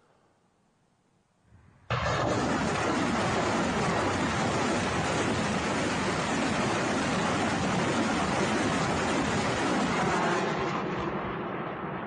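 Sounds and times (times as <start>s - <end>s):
rockets launching: 1.5s - 11.9s.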